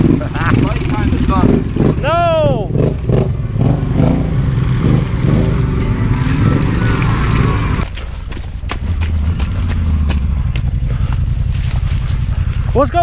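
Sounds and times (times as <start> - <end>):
off-road vehicle engine: 0.0 - 13.0.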